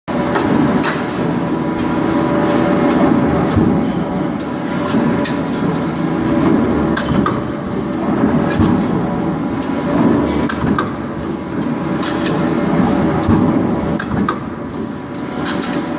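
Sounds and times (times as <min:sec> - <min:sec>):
factory machinery din: 0:00.1 - 0:15.9.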